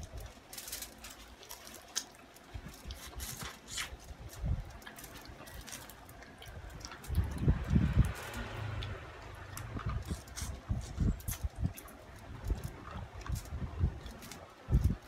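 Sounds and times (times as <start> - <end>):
wet chewing and mouth noises: 0.0 - 15.0.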